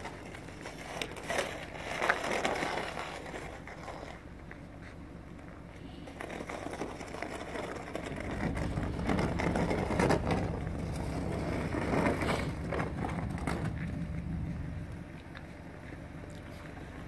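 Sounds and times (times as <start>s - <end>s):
snow shovel scraping pavement: 0.0s - 5.0s, 5.9s - 14.6s.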